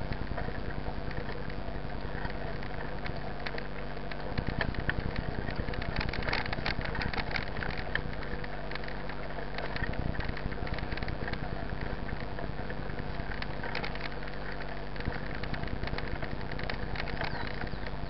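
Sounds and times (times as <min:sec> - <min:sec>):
bike tyres rumbling on dirt: 0:00.0 - 0:18.0
bike clicks and rattles: 0:00.1 - 0:18.0.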